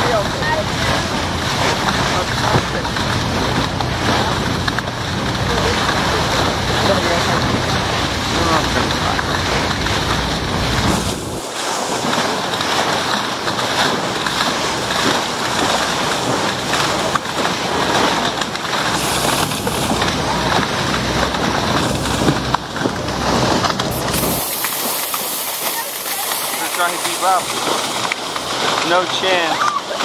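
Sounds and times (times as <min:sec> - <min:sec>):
water rushing and splashing: 0:00.0 - 0:30.0
wind buffeting microphone: 0:00.0 - 0:30.0.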